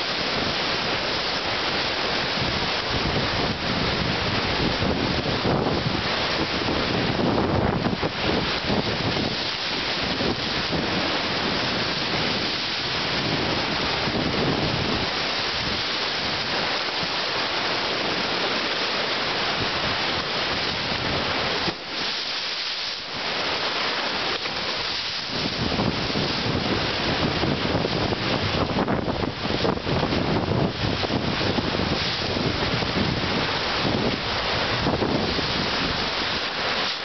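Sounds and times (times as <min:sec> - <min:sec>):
rushing stream water: 0:00.0 - 0:37.0.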